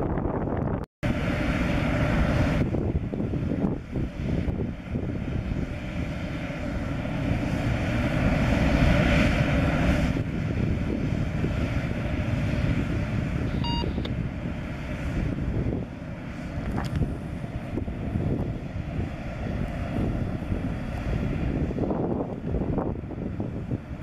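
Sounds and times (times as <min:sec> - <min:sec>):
diesel locomotive engine: 0:00.0 - 0:24.0
train rumbling on rails: 0:00.0 - 0:24.0.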